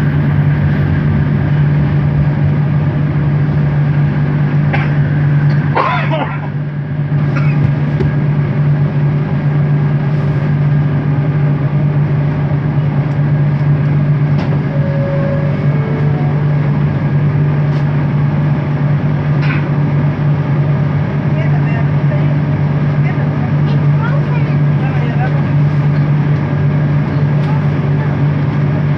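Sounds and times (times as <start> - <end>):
train motor hum: 0.0 - 28.9
train rolling rumble: 0.0 - 28.9.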